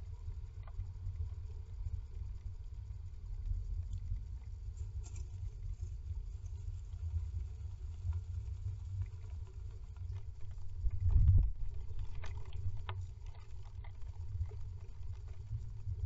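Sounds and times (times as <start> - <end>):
faint scratchy clicks: 0.4 - 2.5, 3.4 - 15.8.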